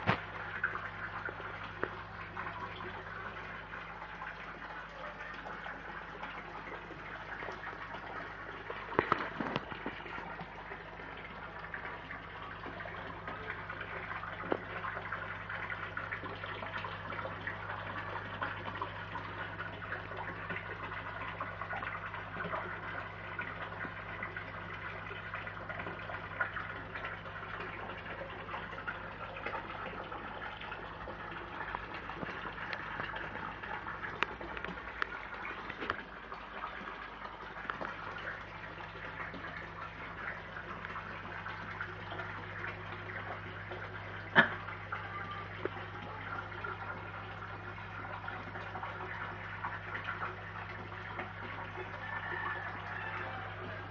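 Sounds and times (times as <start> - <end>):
low steady hum: 0.0 - 53.9
water splashing into pond: 0.0 - 53.9.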